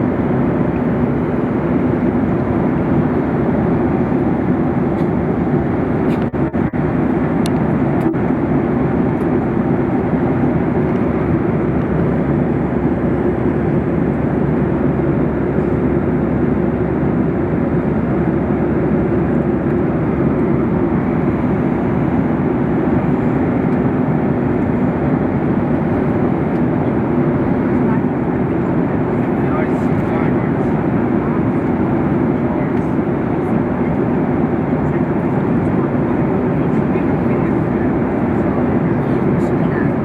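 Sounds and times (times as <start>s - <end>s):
jet engines humming: 0.0s - 40.0s.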